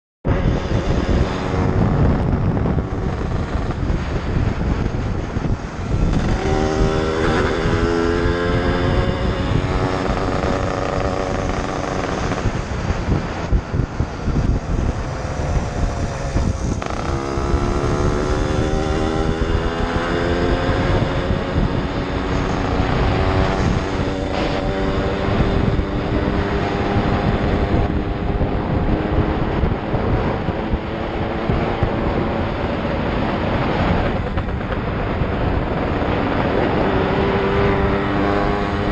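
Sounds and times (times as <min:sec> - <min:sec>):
wind rumble on microphone: 0:00.2 - 0:38.9
motorcycle engine revving: 0:00.3 - 0:38.9.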